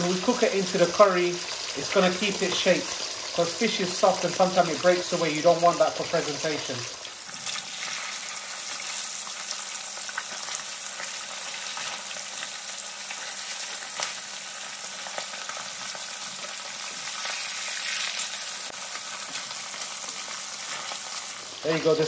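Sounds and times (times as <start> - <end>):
fish sizzling in hot oil: 0.0 - 22.0
oil popping and crackling: 0.0 - 22.0.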